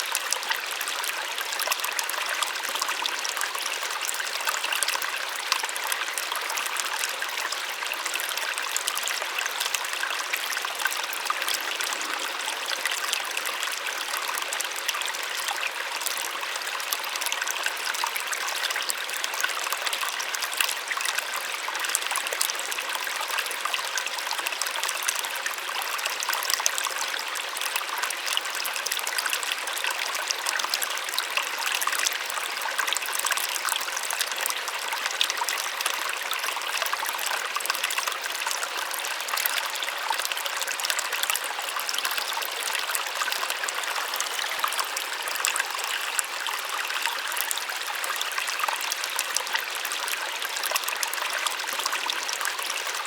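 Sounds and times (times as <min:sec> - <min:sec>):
small waterfall splashing: 0:00.0 - 0:53.0.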